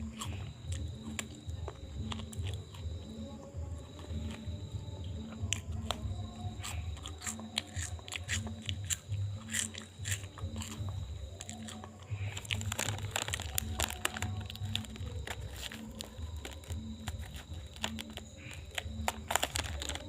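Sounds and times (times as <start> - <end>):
background music with low beat: 0.0 - 20.0
crisp clicks and crackles: 0.0 - 20.0.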